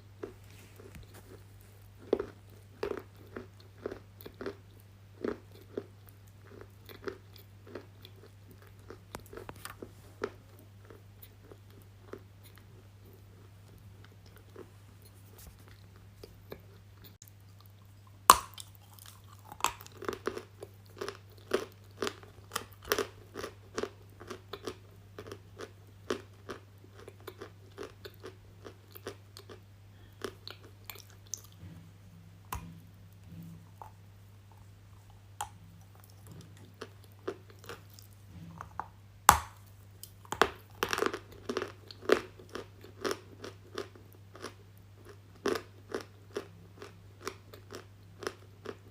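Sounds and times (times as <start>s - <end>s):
crisp crunching chews: 0.2s - 31.7s, 40.0s - 48.9s.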